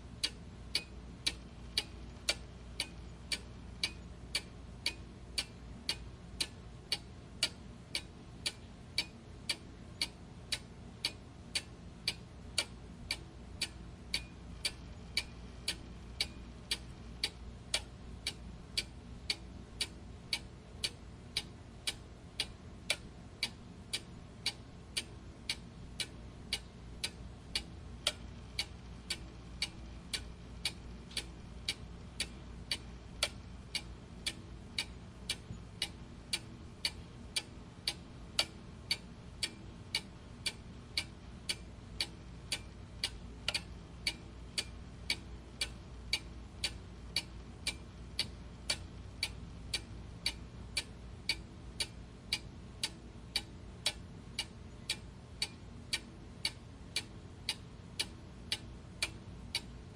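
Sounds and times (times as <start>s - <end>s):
faint low hum: 0.0s - 59.9s
clock ticking: 0.2s - 59.8s.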